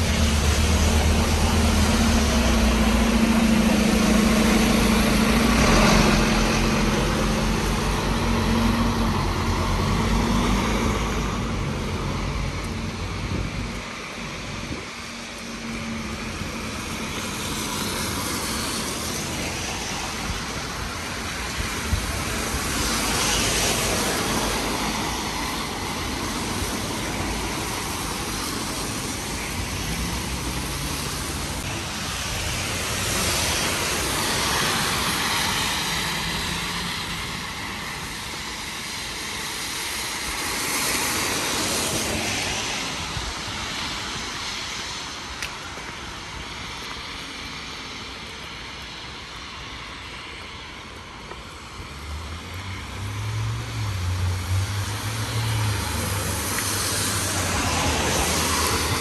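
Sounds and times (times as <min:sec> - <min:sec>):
cars passing on wet road: 0:00.0 - 0:59.0.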